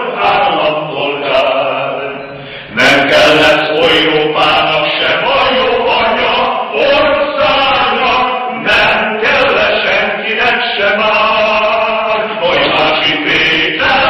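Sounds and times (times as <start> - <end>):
men singing unaccompanied: 0.0 - 14.0.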